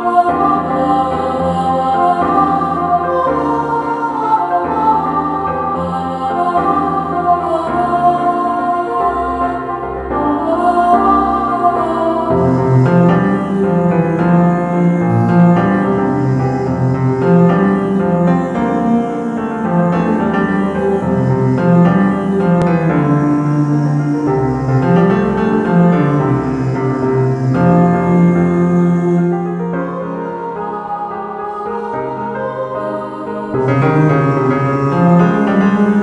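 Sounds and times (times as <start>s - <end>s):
church choir singing: 0.0s - 36.0s
piano: 0.0s - 36.0s.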